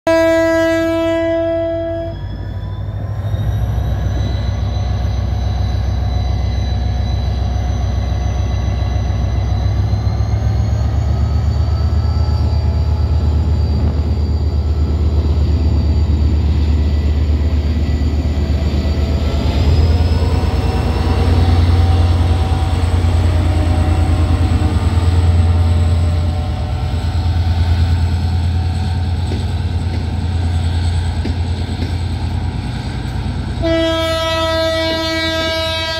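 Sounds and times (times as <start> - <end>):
locomotive engine rumbling and whining: 0.1 - 35.9
train coaches rolling on rails: 1.8 - 35.9.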